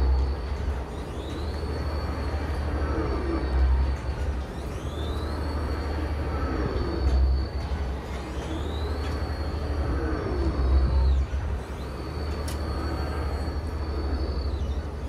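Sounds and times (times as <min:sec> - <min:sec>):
deep mechanical rumble: 0:00.0 - 0:15.0
high whine gliding up: 0:00.0 - 0:15.0.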